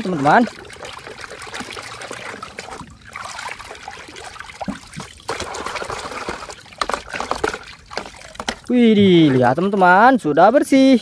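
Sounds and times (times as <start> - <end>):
water sloshing in a basin: 0.0 - 11.0.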